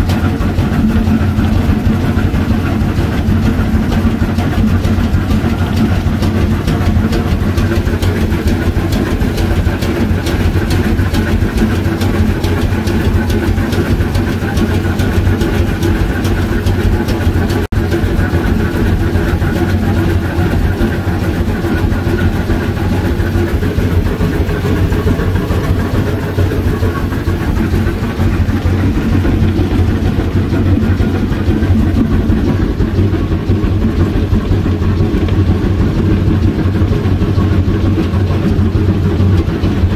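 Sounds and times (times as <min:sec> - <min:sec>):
steam locomotive working: 0:00.0 - 0:39.9.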